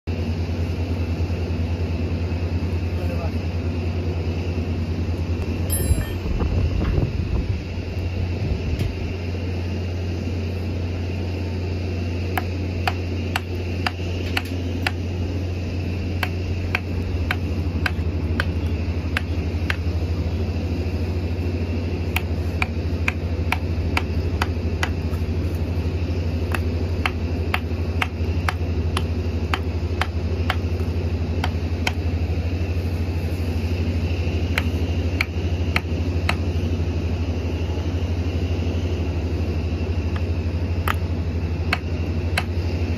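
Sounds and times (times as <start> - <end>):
diesel engine idling: 0.1 - 42.9.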